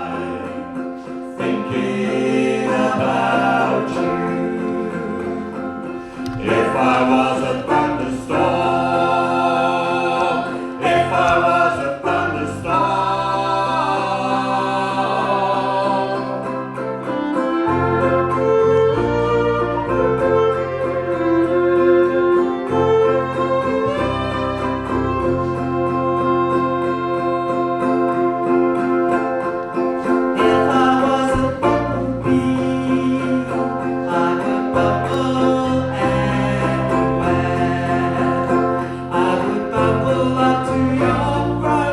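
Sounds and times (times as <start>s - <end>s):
bass: 0.0s - 41.9s
plucked guitar: 0.0s - 41.9s.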